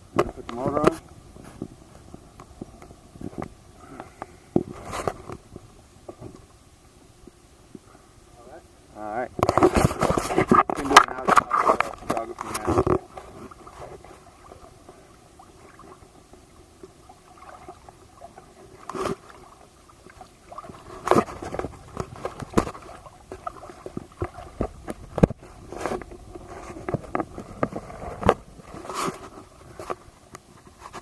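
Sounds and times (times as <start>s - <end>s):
water splashing against boat: 0.0s - 7.8s, 8.5s - 31.0s.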